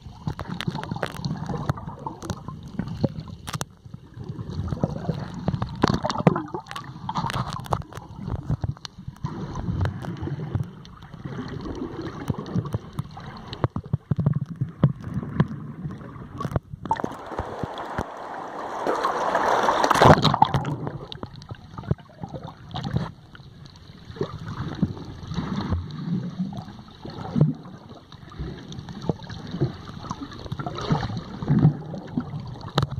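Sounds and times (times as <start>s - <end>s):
rush of water: 0.0s - 32.9s
underwater gurgling and sloshing: 0.0s - 32.9s.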